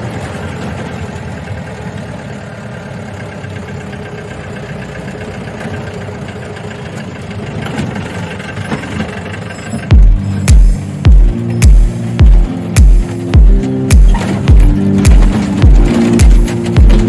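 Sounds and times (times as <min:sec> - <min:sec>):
vehicle engine running inside cab: 0:00.0 - 0:17.0.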